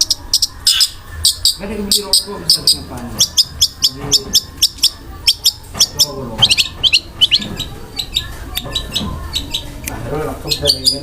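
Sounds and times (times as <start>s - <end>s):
bird singing sharp high chirps: 0.0s - 9.7s.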